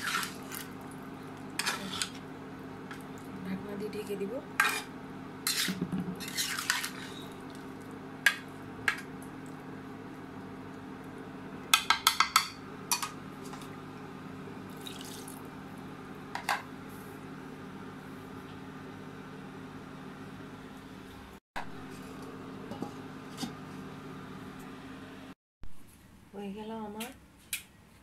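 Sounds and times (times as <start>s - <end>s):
steady low hum: 0.0s - 27.4s.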